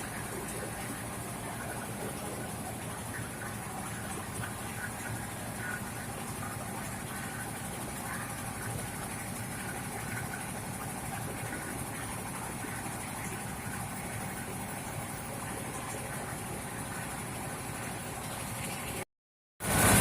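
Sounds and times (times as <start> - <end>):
milling machine droning: 0.0 - 19.0.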